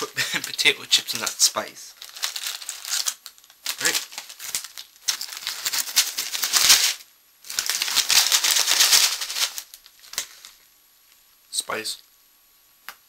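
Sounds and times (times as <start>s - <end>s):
snack packaging rattling and crinkling: 0.0s - 10.6s.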